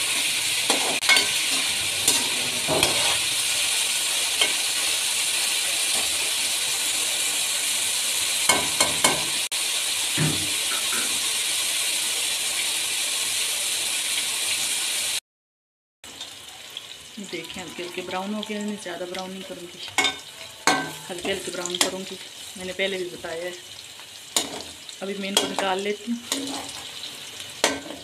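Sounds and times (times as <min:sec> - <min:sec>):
frying in hot oil: 0:00.0 - 0:15.2, 0:16.0 - 0:28.0.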